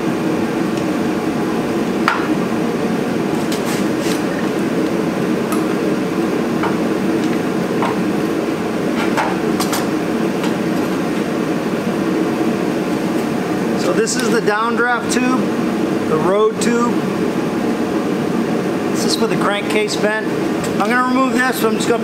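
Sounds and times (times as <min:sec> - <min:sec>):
loud steady hum: 0:00.0 - 0:22.0.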